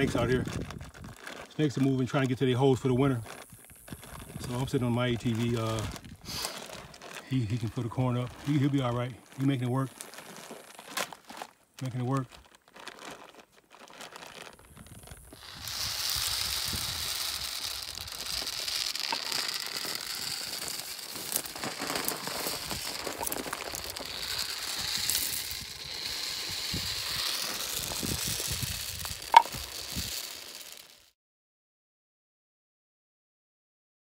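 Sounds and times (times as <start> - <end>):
corn kernels rattling down pipe: 0.0 - 31.1
plastic bag crinkling: 0.0 - 31.1.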